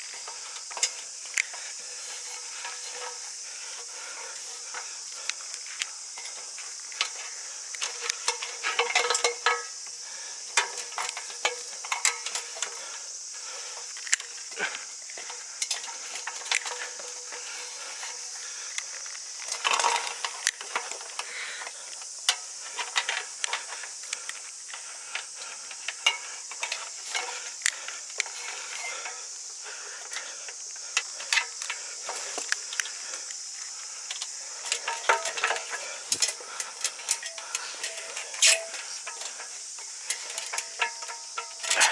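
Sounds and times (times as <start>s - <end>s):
crackling rustles: 0.0s - 41.9s
high-pitched insect chorus: 0.0s - 41.9s.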